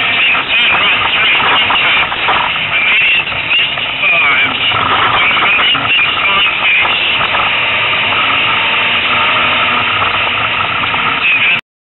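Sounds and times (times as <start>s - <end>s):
race car engine and road noise: 0.0s - 11.6s.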